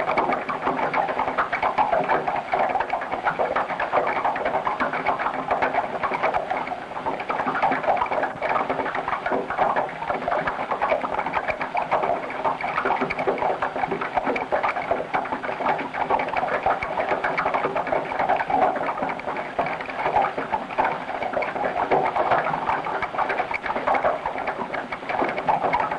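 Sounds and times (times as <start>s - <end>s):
rapid clattering ticks and clicks: 0.0s - 25.9s.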